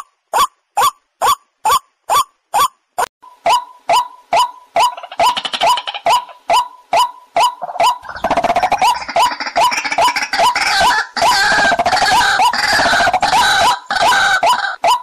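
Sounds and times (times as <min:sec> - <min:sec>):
waterhen calls: 0:00.0 - 0:15.0.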